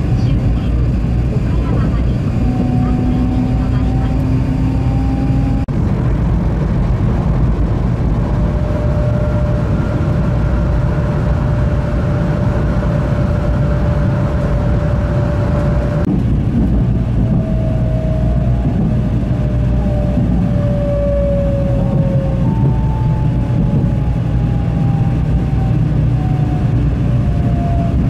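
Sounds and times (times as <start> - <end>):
train rumbling inside carriage: 0.0 - 28.0.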